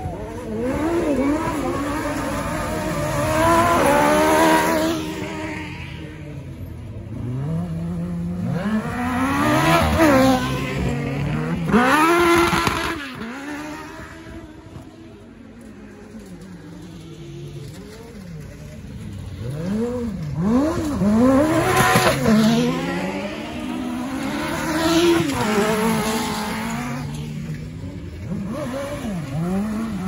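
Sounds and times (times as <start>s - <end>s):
racing buggy engines revving: 0.0s - 30.0s.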